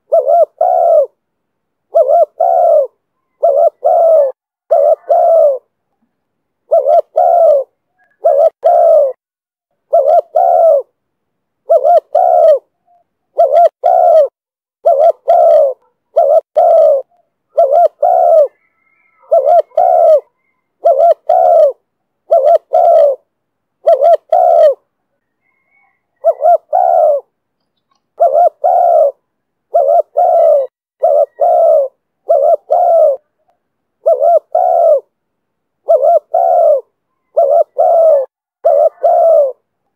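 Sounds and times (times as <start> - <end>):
dove cooing: 0.0 - 1.2, 1.9 - 5.8, 6.7 - 9.2, 9.8 - 11.0, 11.6 - 35.2, 35.8 - 39.7.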